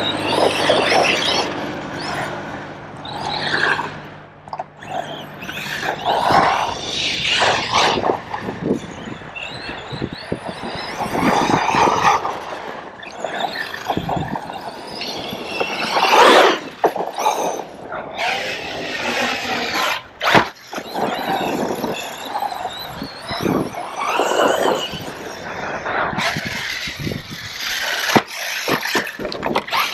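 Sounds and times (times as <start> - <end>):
electric toy truck motor whining: 0.0 - 29.9
wind noise on microphone: 4.9 - 29.9.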